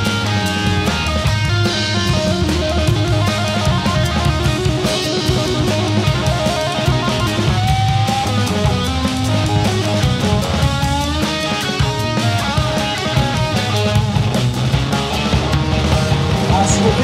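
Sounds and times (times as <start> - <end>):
bass: 0.0 - 17.0
drum kit: 0.0 - 17.0
overdriven electric guitar lead: 0.0 - 17.0.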